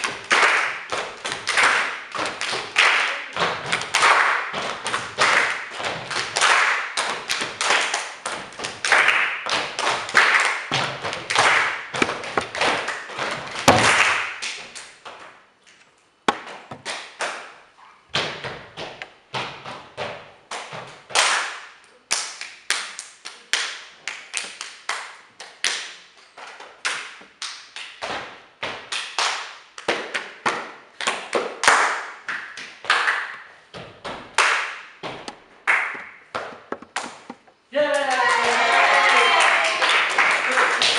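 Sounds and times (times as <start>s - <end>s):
hands clapping and body percussion: 0.0s - 15.4s, 16.3s - 17.7s, 18.3s - 40.9s.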